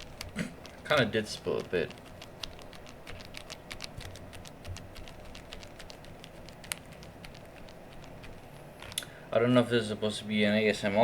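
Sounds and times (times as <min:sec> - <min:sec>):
sock rustling on keyboard: 0:00.0 - 0:09.0
small keyboard clicks: 0:00.0 - 0:09.1.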